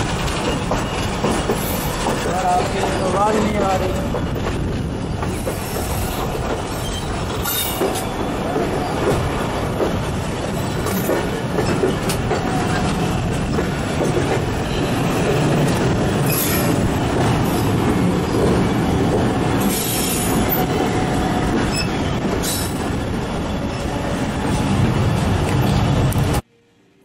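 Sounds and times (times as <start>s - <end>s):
train wheels on rails: 0.0s - 26.4s.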